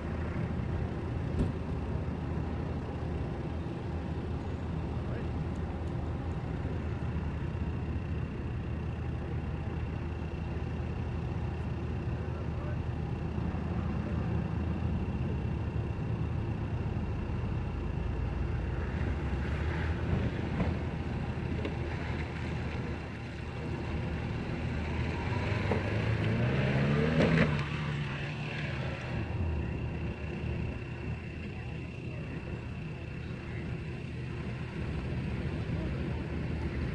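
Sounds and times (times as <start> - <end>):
car engine revving off-road: 0.0 - 36.9.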